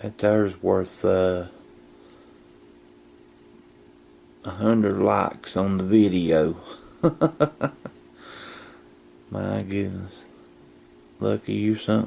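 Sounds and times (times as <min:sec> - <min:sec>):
low even hum: 0:00.0 - 0:12.0
steady hiss: 0:00.0 - 0:12.0.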